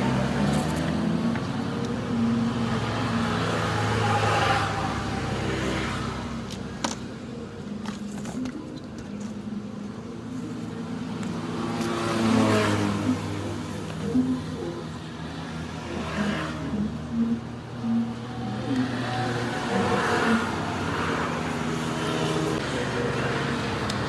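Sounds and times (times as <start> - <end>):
vehicle engines passing by: 0.0 - 24.0.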